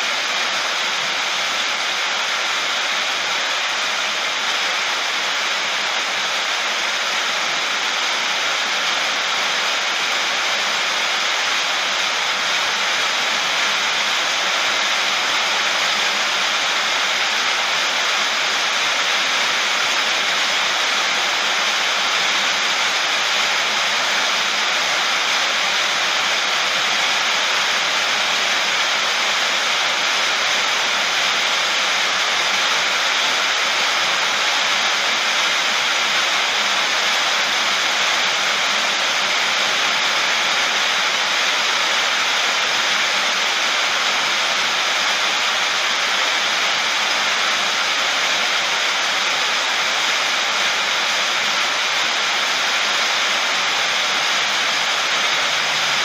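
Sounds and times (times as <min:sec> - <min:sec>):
heavy rain on metal roof: 0:00.0 - 0:56.0.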